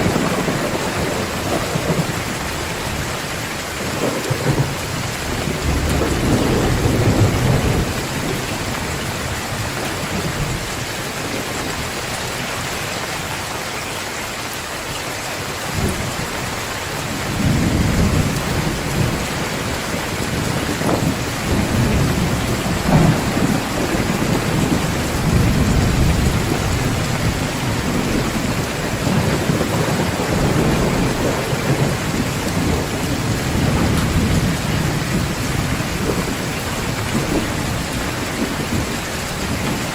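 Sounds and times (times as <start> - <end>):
rolling thunder: 0.0 - 12.1, 15.7 - 39.9
heavy rain pouring: 0.0 - 39.9.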